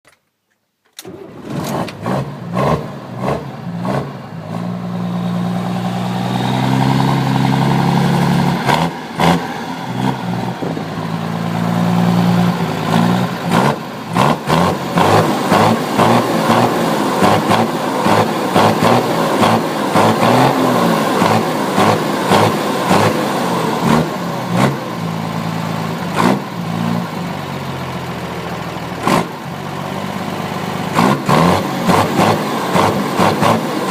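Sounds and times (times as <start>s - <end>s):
diesel truck engine revving: 1.0s - 33.9s.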